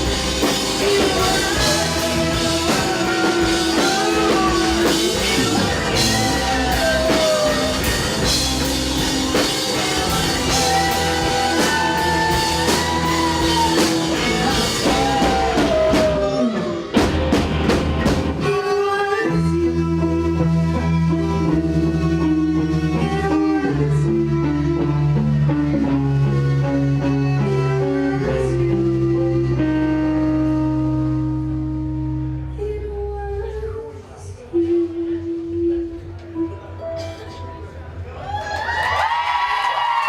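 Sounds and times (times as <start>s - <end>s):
rock band music: 0.0s - 32.8s.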